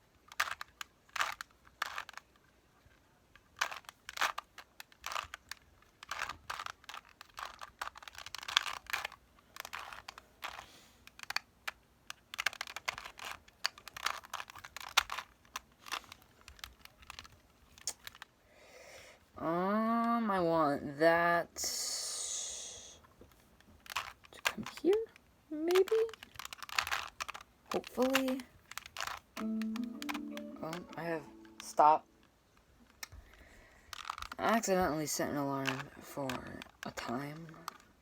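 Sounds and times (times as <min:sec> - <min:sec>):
puzzle cube plastic clicks: 0:00.0 - 0:18.4, 0:23.0 - 0:32.3, 0:32.9 - 0:38.0.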